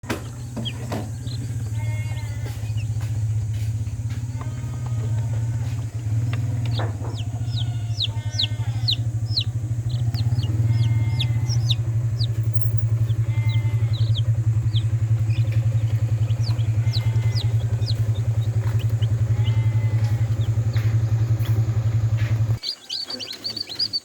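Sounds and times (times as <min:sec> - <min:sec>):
chicks peeping: 0:00.0 - 0:24.0
engine humming: 0:00.0 - 0:24.0.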